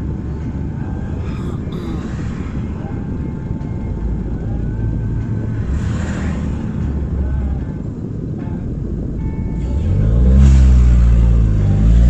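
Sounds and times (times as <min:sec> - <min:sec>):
car engine with blowing exhaust: 0:00.0 - 0:12.0.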